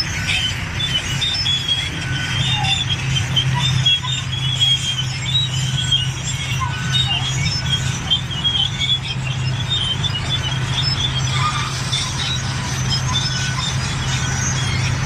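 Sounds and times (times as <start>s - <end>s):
diesel engine running: 0.0s - 15.0s
steel tracks squealing: 0.0s - 15.0s.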